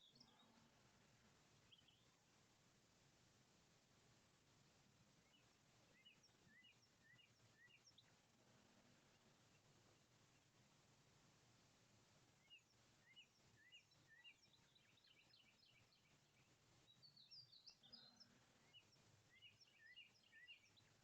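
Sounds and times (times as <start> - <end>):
faint songbird chirping: 0.0 - 21.0.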